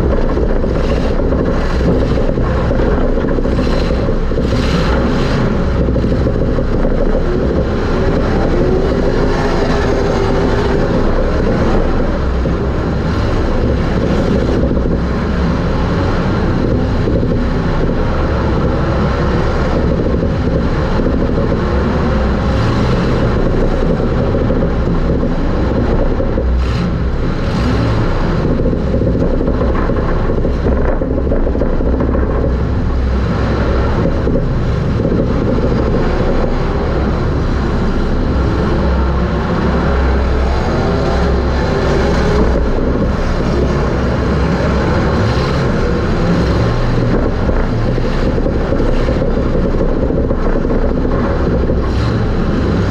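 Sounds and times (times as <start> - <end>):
race car engine running hard: 0.0 - 52.9
wind and chassis rumble: 0.0 - 52.9.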